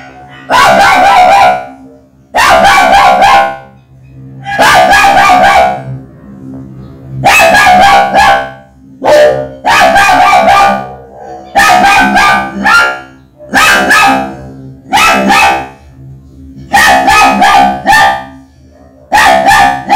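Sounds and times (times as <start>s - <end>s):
robotic processed dog barks: 0.0s - 6.0s, 7.1s - 19.9s.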